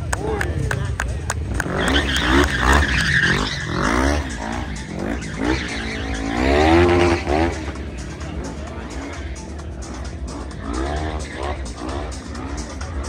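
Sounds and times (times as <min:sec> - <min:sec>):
tyres skidding on asphalt: 0:00.0 - 0:13.0
quad engine revving: 0:01.4 - 0:13.0.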